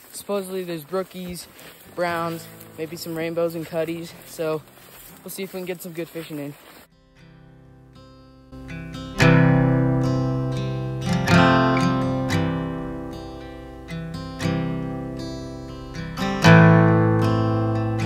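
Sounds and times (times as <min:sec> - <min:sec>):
acoustic guitar strumming: 0:01.8 - 0:05.4, 0:06.9 - 0:18.0.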